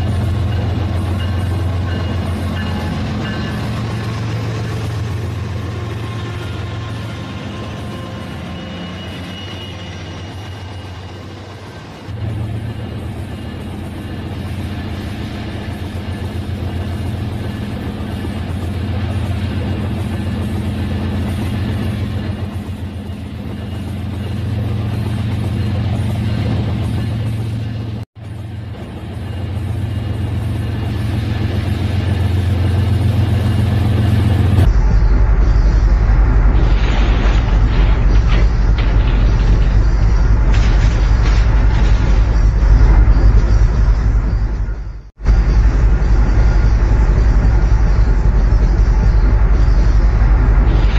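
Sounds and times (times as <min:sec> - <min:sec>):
wheels rattling along rails: 0:00.0 - 0:50.9.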